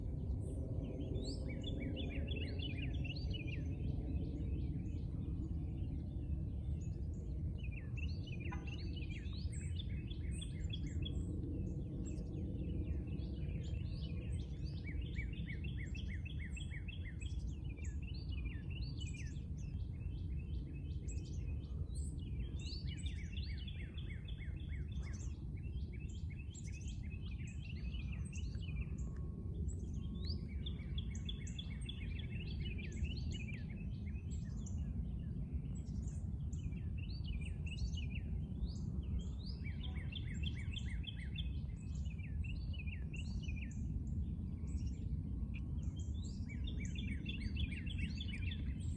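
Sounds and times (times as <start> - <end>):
songbirds singing: 0.0 - 48.9
steady low rumble: 0.0 - 48.9.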